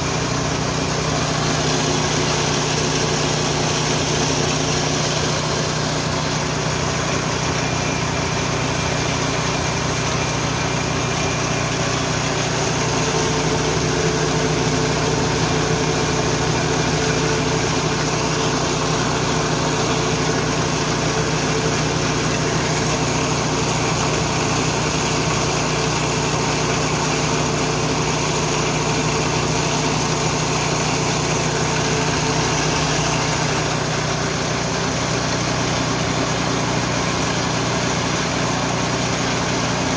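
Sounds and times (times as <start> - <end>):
grain mill running: 0.0 - 39.9.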